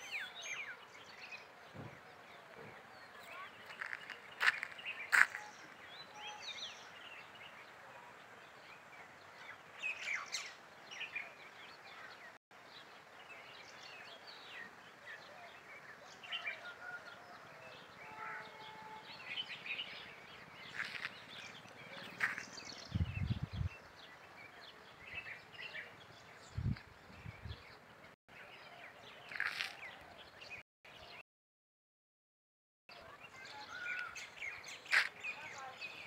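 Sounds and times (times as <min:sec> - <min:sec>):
birds chirping: 0:00.0 - 0:31.2, 0:32.9 - 0:36.0.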